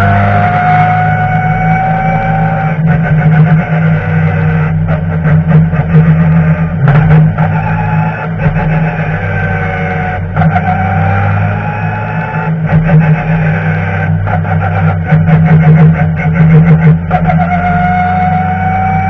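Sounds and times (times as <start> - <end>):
racing car engine running hard: 0.0 - 19.0.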